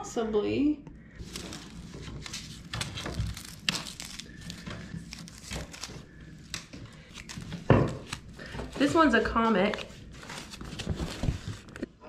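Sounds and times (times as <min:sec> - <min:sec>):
newspaper crinkling and tearing: 0:01.2 - 0:11.9.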